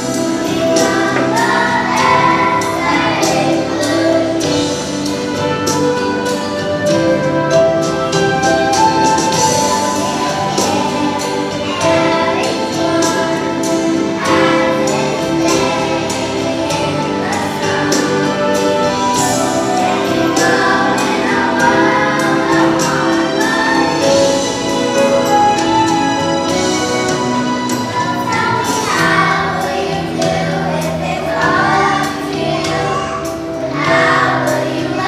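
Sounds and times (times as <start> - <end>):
children singing in chorus: 0.0 - 35.0
instrumental accompaniment with beat: 0.0 - 35.0.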